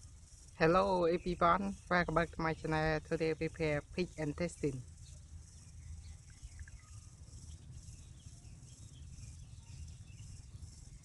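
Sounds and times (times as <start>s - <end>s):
faint bird chirps: 0.0s - 11.0s
high insect hiss: 0.0s - 11.0s.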